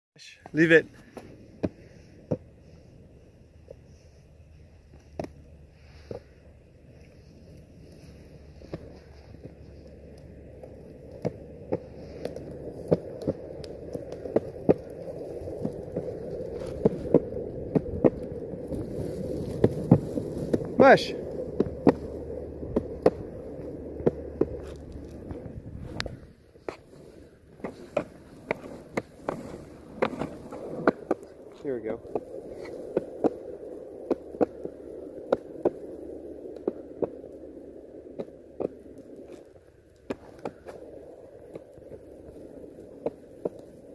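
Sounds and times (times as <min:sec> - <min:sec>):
longboard wheels rumbling on concrete: 0:00.5 - 0:43.9.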